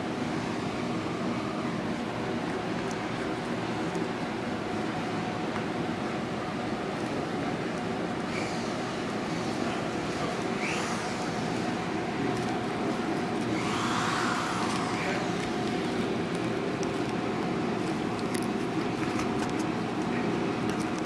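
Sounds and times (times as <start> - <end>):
machine noise with whine: 0.0 - 21.0.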